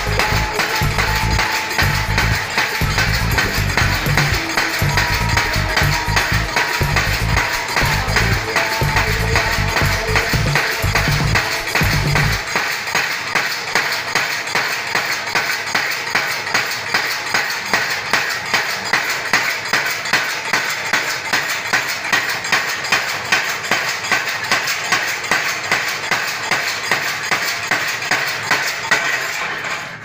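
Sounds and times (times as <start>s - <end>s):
power hammer pounding hot iron: 0.0s - 29.7s.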